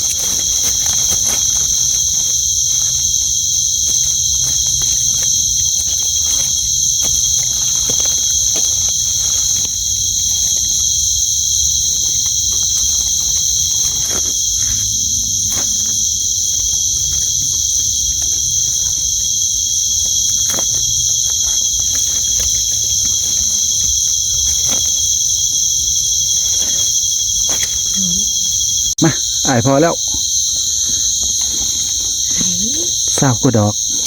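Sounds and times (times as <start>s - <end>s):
crickets and night insects trilling: 0.0s - 34.0s.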